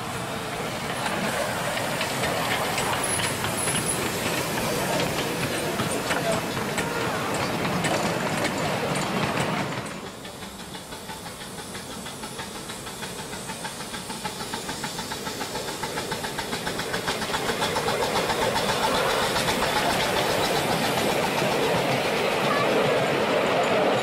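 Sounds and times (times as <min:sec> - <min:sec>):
steam hissing: 0:00.0 - 0:24.0
steam locomotive exhaust beats: 0:00.0 - 0:24.0.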